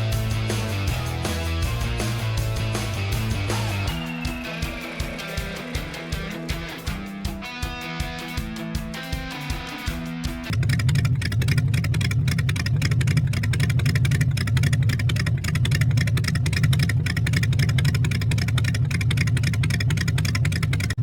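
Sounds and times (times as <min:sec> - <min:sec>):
vehicle engine running steadily: 0:00.0 - 0:07.4, 0:09.5 - 0:21.0.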